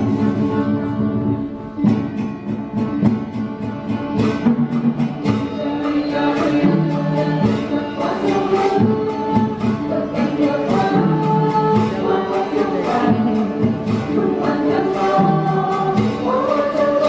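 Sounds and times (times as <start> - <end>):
plucked string instruments: 0.0 - 17.0
sharp percussive strikes: 1.7 - 17.0.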